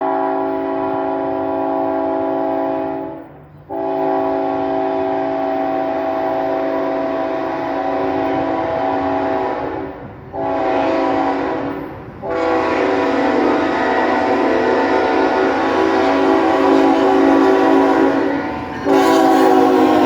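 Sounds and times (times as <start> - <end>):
locomotive air horn blasts: 0.0 - 20.0
low rumble of moving train: 0.0 - 20.0.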